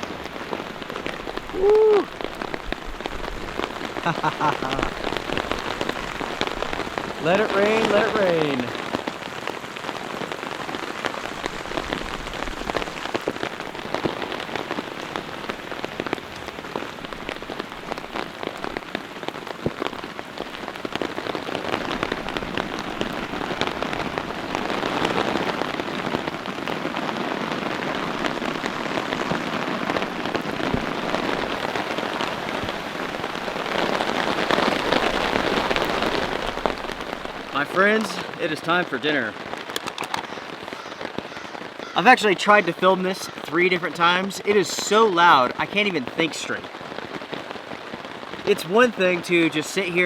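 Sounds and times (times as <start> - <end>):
heavy rain on a tarp: 0.0 - 50.0.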